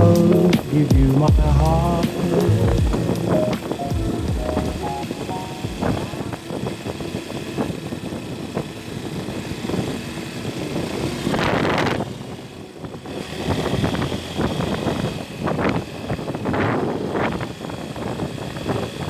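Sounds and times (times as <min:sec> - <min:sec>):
motorcycle engine: 0:00.0 - 0:16.4
road noise: 0:00.0 - 0:19.0.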